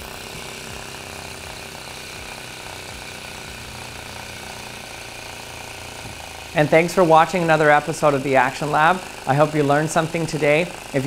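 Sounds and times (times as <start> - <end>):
model engine mechanical clatter: 0.0 - 11.0.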